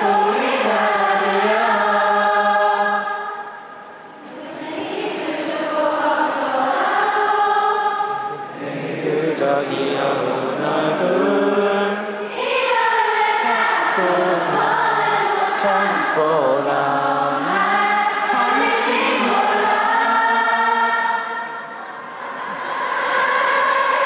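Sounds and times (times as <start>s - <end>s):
crowd singing a pop song: 0.0s - 24.0s.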